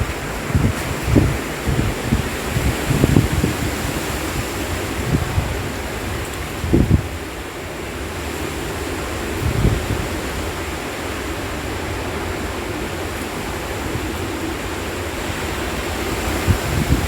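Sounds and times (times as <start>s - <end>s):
strong storm wind blowing: 0.0s - 17.0s
wind gusts buffeting microphone: 0.0s - 17.0s.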